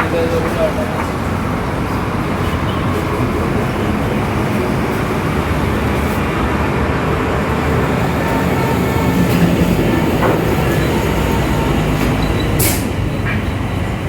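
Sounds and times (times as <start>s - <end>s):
workshop machinery rumble: 0.0s - 14.0s.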